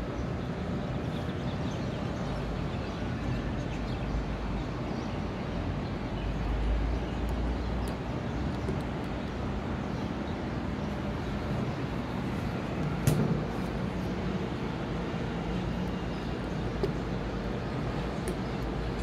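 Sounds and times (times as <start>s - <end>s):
distant city traffic: 0.0s - 19.0s.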